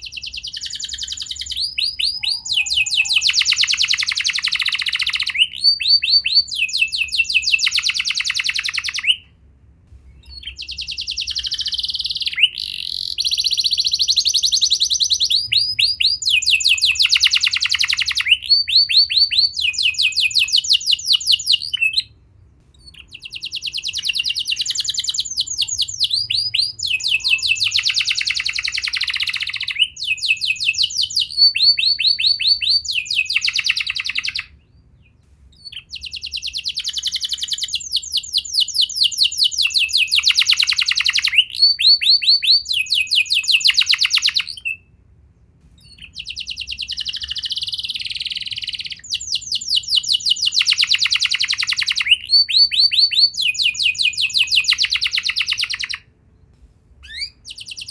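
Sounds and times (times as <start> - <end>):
canary singing trills: 0.0 - 9.3, 10.1 - 44.9, 45.8 - 56.1, 57.0 - 57.9.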